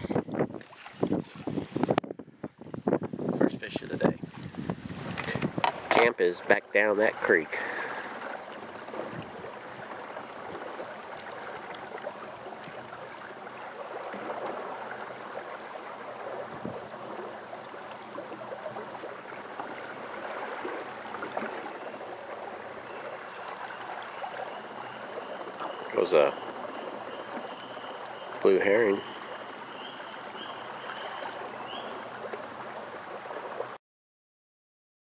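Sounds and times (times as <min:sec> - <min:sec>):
water lapping against boat hull: 0:00.0 - 0:33.8.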